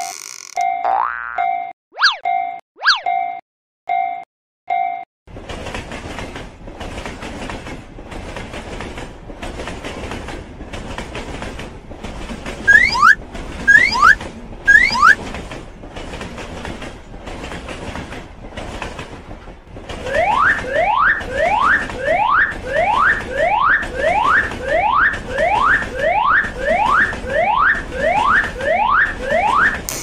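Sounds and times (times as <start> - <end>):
train rumbling: 5.3 - 29.9.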